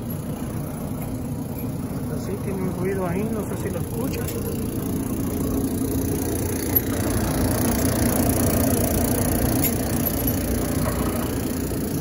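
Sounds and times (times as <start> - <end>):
dryer drum rumbling: 0.0 - 12.0.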